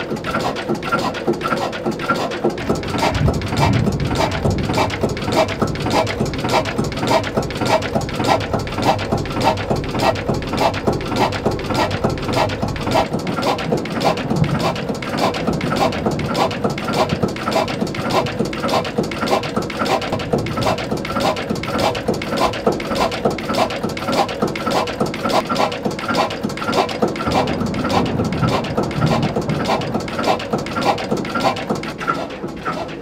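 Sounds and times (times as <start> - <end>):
stationary engine running: 0.0 - 33.0.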